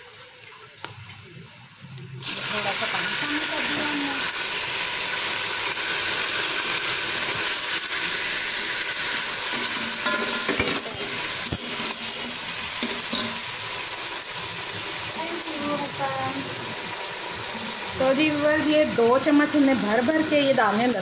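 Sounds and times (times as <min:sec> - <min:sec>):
onions sizzling in hot oil: 0:01.7 - 0:21.0.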